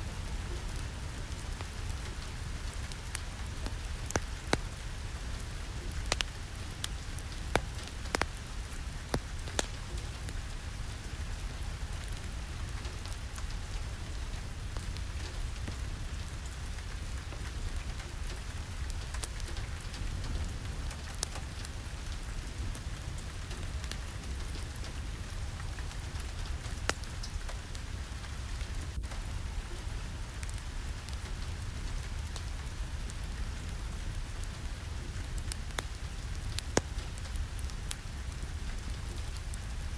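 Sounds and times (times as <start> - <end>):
steady rain: 0.0 - 39.9
sharp ticks and pops: 0.7 - 22.8, 23.4 - 29.2, 35.3 - 39.7.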